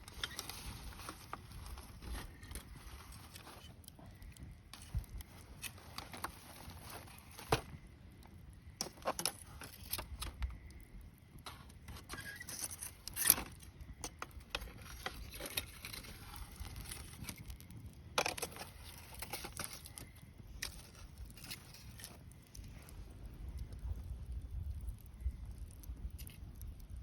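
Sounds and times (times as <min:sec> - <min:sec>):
campfire crackling: 0:00.0 - 0:27.0
low steady hiss: 0:00.0 - 0:27.0.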